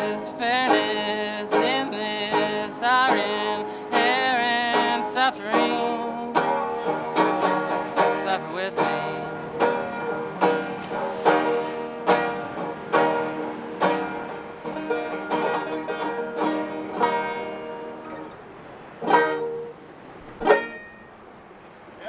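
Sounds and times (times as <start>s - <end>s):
plucked banjo strumming: 0.0s - 21.4s.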